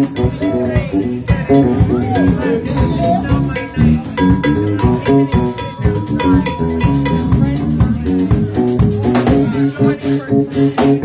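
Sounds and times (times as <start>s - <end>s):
bass guitar: 0.0s - 11.0s
drum kit beat: 0.0s - 11.0s.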